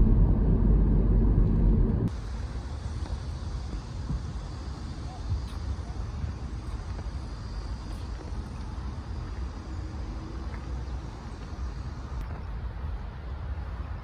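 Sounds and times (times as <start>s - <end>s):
wind buffeting microphone: 0.0s - 13.4s
faint open-air background: 2.1s - 14.0s.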